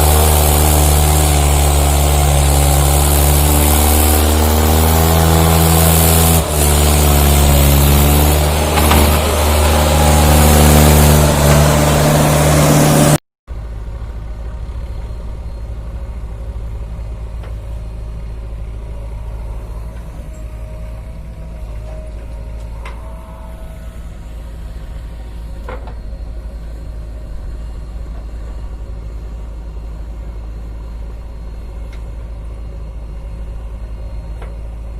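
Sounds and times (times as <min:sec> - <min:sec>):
tractor diesel engine revving: 0:00.0 - 0:28.2
steady engine drone: 0:00.0 - 0:34.9.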